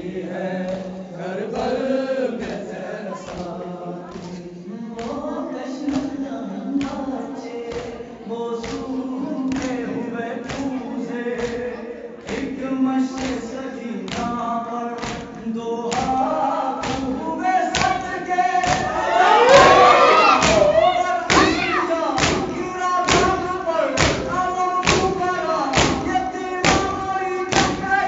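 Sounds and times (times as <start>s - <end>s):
men chanting together: 0.0s - 28.0s.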